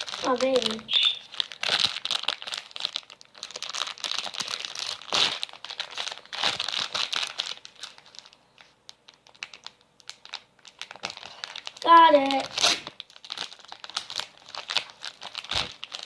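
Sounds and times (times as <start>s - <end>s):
plastic packaging crinkling and tearing: 0.0s - 16.0s.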